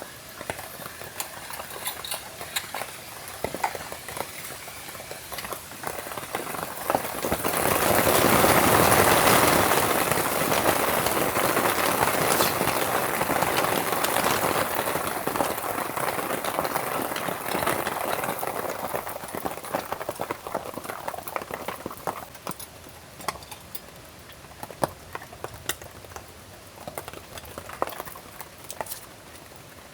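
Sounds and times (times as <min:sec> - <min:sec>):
heavy rain pattering: 0:00.0 - 0:29.9.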